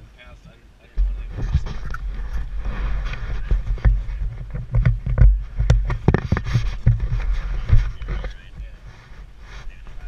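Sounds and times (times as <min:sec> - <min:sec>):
deep handling rumble: 0:01.0 - 0:10.0
knocks and scrapes against mount: 0:01.0 - 0:10.0.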